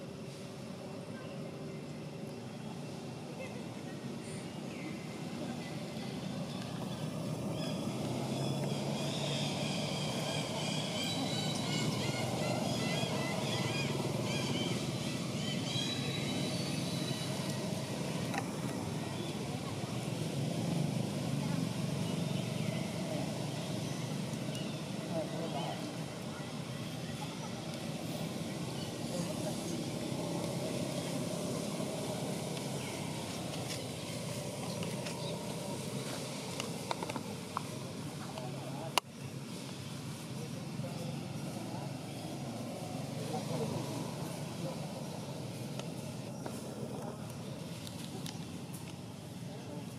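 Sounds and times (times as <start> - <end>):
low outdoor rumble: 0.0 - 49.9.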